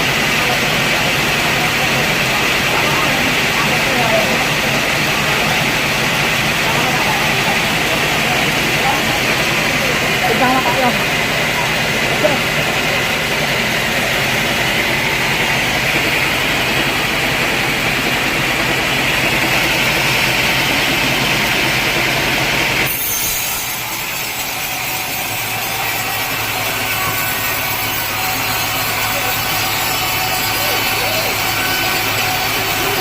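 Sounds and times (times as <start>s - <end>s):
machine motor hum: 0.0s - 33.0s
sawmill saw cutting log: 0.0s - 33.0s.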